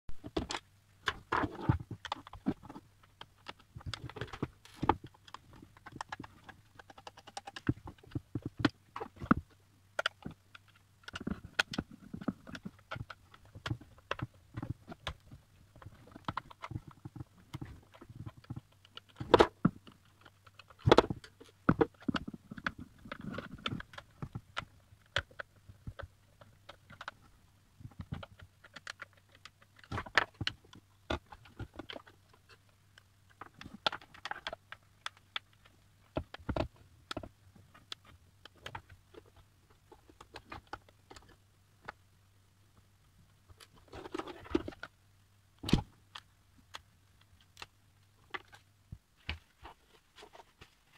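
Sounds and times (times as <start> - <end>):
screws and plastic parts on table: 0.1 - 50.9.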